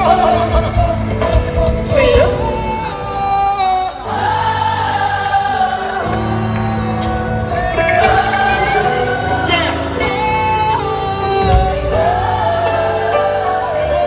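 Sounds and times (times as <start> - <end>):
choir singing: 0.0 - 14.0
gospel band with keyboard and bass: 0.0 - 14.0.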